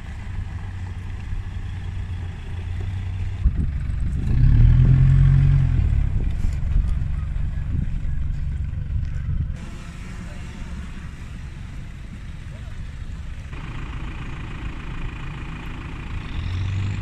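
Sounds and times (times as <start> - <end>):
nearer truck engine: 0.0 - 17.0
pickup truck engines running: 0.0 - 17.0.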